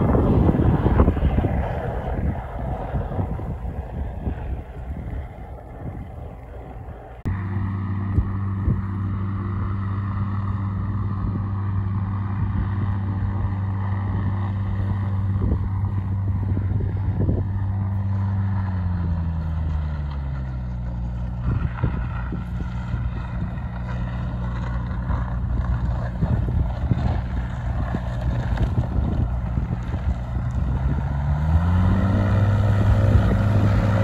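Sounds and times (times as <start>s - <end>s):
light aircraft piston engine: 0.0s - 34.0s.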